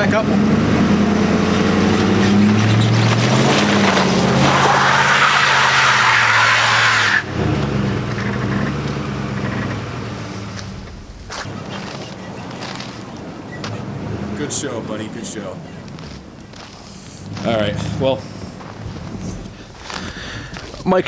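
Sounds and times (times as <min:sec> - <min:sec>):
pickup engine revving: 0:00.0 - 0:20.9
tyres spinning in snow: 0:00.0 - 0:21.0.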